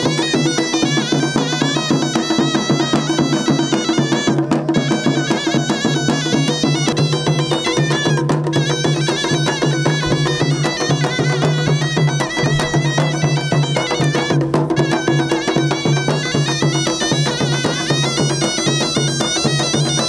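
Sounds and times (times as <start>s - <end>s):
large drum beating: 0.0s - 20.0s
shrill reed pipe melody: 0.0s - 20.0s.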